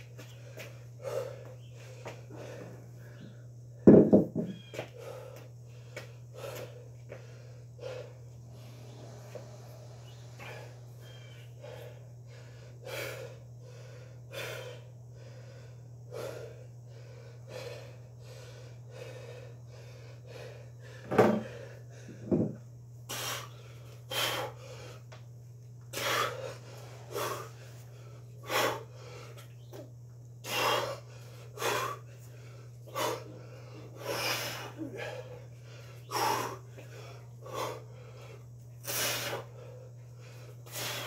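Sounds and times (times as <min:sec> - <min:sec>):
man breathing hard: 0:00.0 - 0:03.9, 0:04.8 - 0:41.0
steady low hum: 0:00.0 - 0:41.0.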